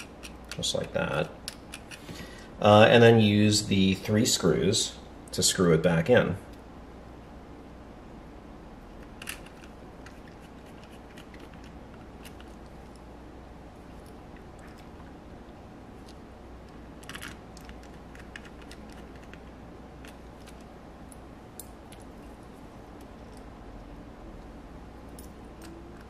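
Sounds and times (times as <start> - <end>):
faint background hum: 0.0 - 26.0.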